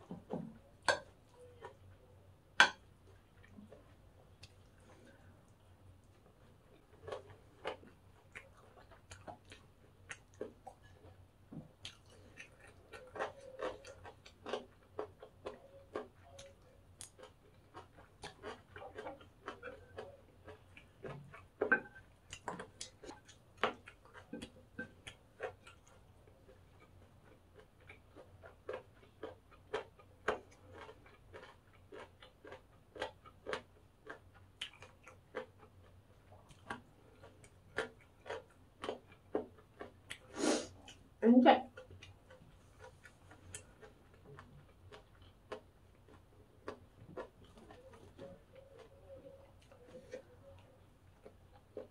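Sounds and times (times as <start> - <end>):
crunchy food chewing: 0.0 - 51.9.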